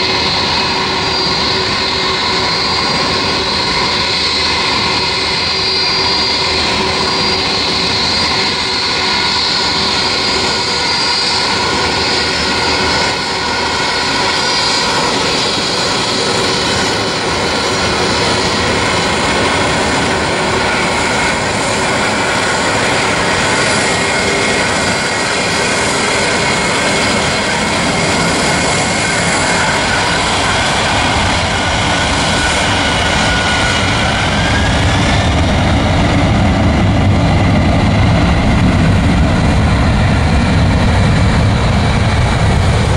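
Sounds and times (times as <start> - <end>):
jet engines spooling up: 0.0 - 42.9
jet engines whining: 0.0 - 42.9.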